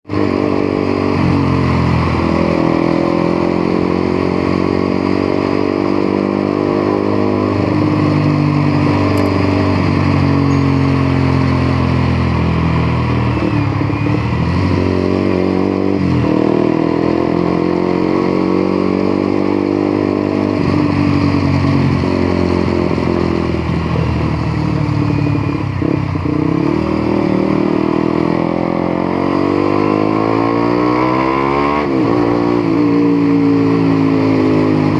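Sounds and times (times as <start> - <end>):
motorcycle engine revving: 0.0 - 34.9
wind and road noise: 0.0 - 34.9.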